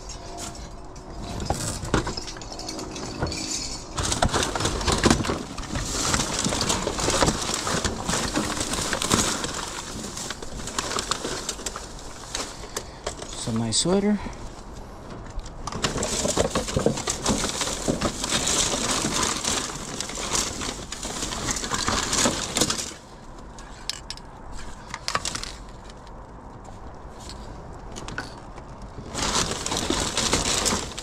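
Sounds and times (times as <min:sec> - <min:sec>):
bags crinkling and rustling: 0:00.0 - 0:31.0.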